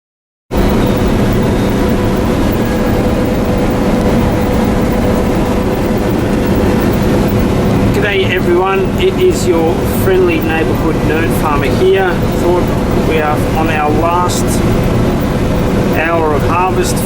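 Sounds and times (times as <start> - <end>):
combine harvester droning: 0.5 - 17.0.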